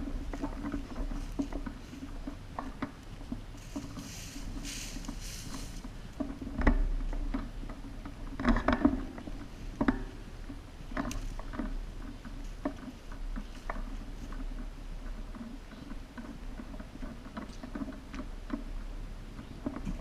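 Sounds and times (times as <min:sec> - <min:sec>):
low steady hum: 0:00.0 - 0:20.0
rustling: 0:00.0 - 0:20.0.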